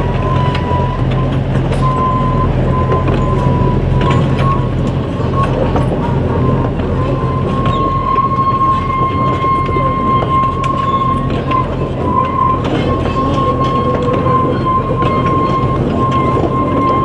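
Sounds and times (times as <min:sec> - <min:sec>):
wagon wheels rumbling on rail: 0:00.0 - 0:17.0
wheel squeal: 0:00.0 - 0:17.0
clicks and clanks: 0:00.1 - 0:17.0.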